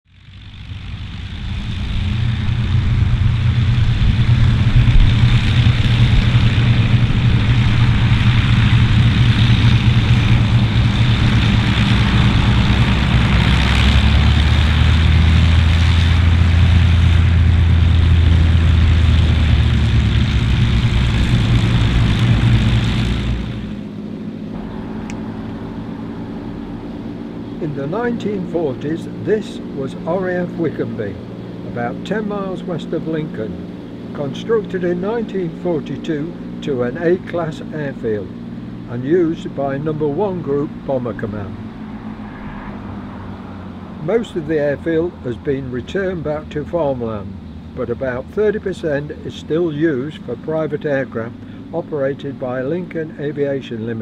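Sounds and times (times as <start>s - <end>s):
propeller aircraft engines droning: 0.0s - 54.0s.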